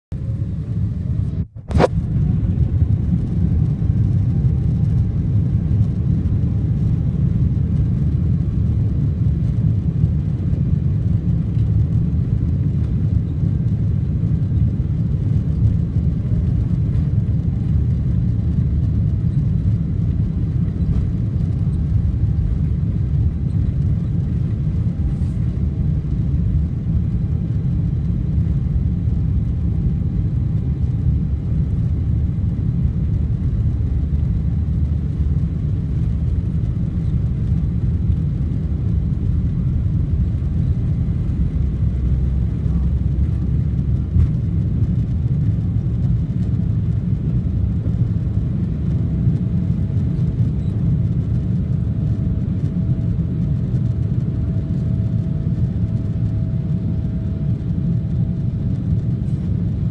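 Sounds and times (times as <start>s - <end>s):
jet engines roaring: 0.2s - 59.9s.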